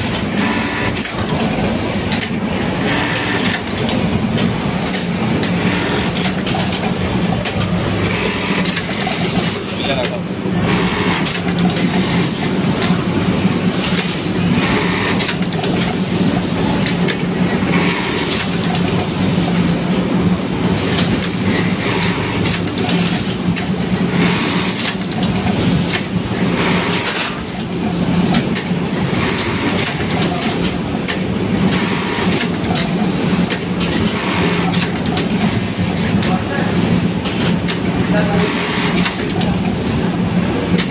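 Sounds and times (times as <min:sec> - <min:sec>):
sewing machine hum and clatter: 0:00.0 - 0:40.9.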